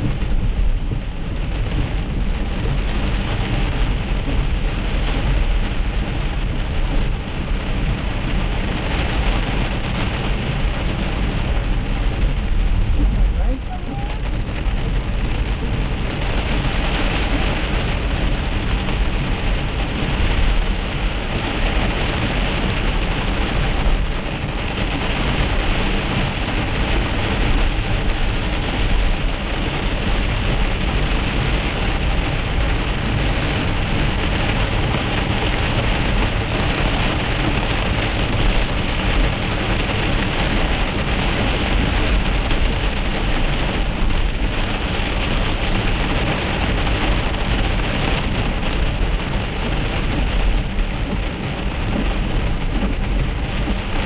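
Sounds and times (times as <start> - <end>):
car driving on wet road: 0.0 - 54.0
rain and hail on car roof: 0.0 - 54.0.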